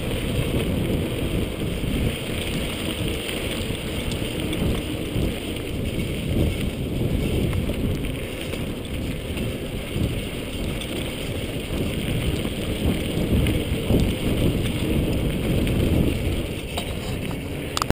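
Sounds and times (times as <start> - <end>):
bike rattling: 0.0 - 17.9
bike tyre rumble: 0.0 - 17.9
wind buffeting microphone: 0.0 - 17.9.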